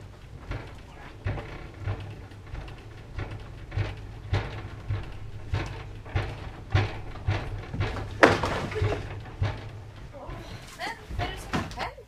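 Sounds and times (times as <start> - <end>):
footsteps on wooden floor: 0.0 - 12.0
steady low hum: 0.0 - 12.0.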